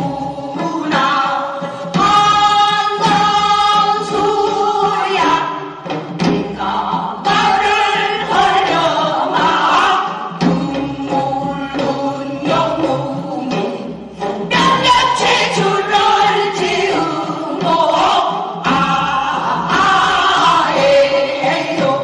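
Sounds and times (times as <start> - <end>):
group singing folk song: 0.0 - 22.0.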